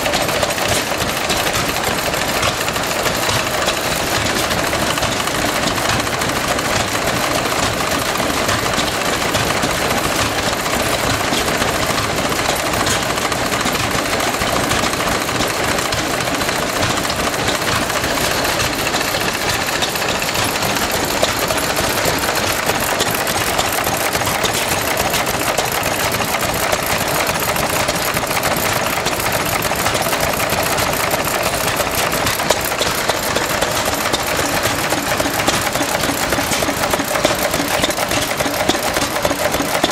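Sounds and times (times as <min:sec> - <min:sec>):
stationary engines clattering: 0:00.0 - 0:39.9.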